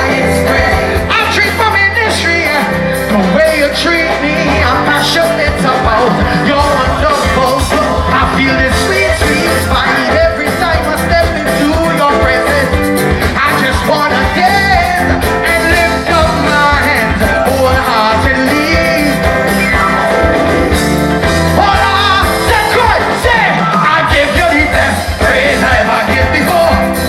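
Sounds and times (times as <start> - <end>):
person singing: 0.0 - 21.0, 21.6 - 27.0
live band gospel music: 0.0 - 27.0.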